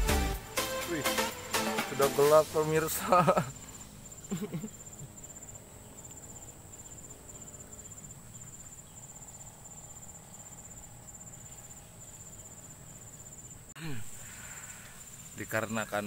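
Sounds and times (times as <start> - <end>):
crickets chirping: 0.9 - 16.0.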